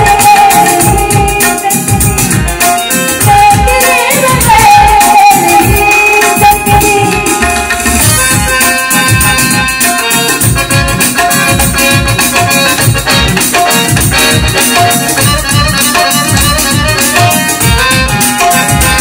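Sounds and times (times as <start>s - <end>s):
harmonium: 0.0s - 19.0s
tabla: 0.0s - 19.0s.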